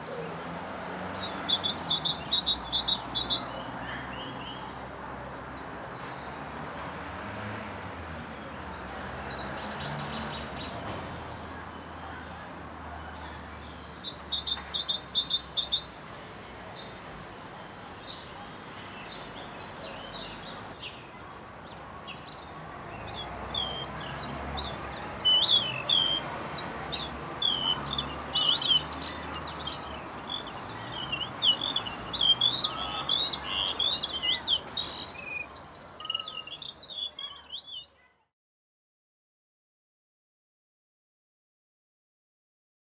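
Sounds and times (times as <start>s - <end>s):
birds chirping: 0.0s - 38.1s.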